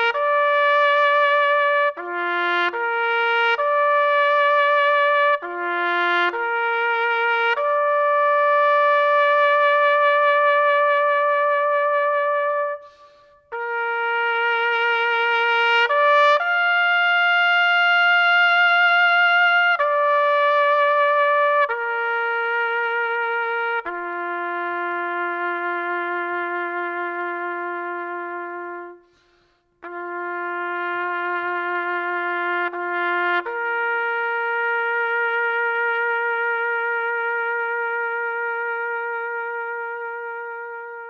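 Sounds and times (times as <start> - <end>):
solo trumpet playing mournful notes: 0.0 - 41.0.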